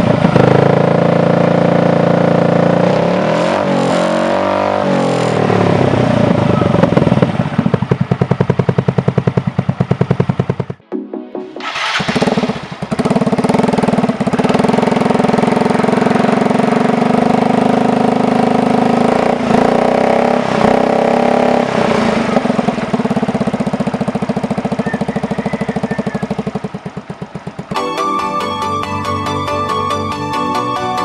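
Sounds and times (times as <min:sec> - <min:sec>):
scooter engine idling: 0:00.0 - 0:02.8, 0:05.4 - 0:10.8, 0:11.6 - 0:31.0
engine throttle blips: 0:00.0 - 0:10.8, 0:11.6 - 0:31.0.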